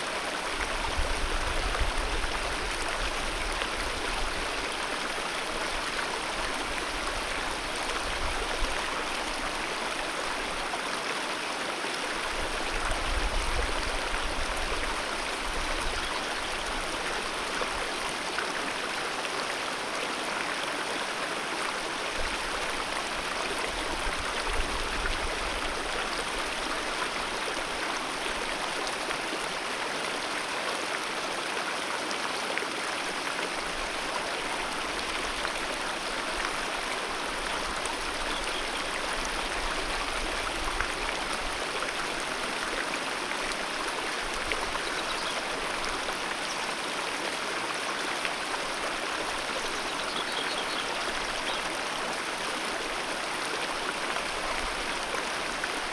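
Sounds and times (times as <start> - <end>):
river flowing: 0.0 - 55.9.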